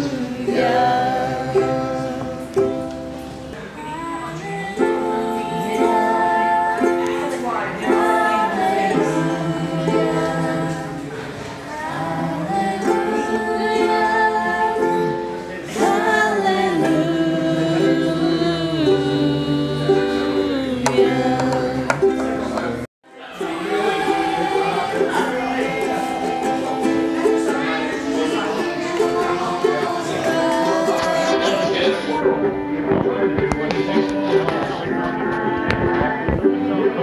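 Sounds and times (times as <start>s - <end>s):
person singing: 0.0s - 37.0s
strummed strings: 0.0s - 37.0s.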